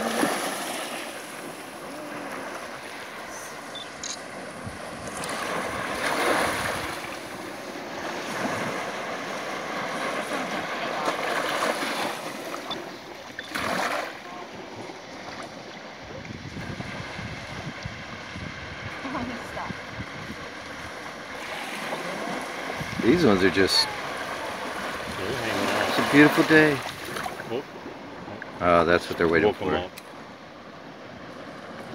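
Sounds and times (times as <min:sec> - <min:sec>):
surf washing up a beach: 0:00.0 - 0:31.9.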